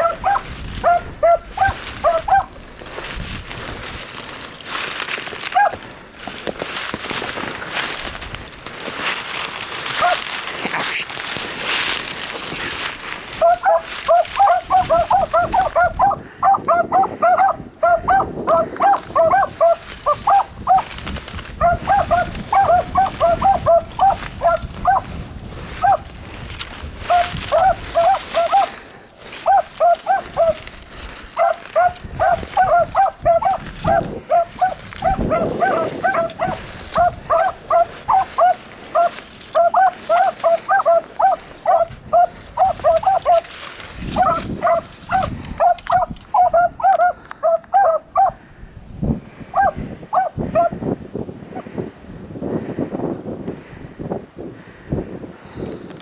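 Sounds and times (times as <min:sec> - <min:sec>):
dogs barking: 0:00.0 - 0:03.2, 0:03.9 - 0:08.0, 0:09.0 - 0:48.4, 0:49.5 - 0:50.8
wind noise on microphone: 0:00.0 - 0:56.0.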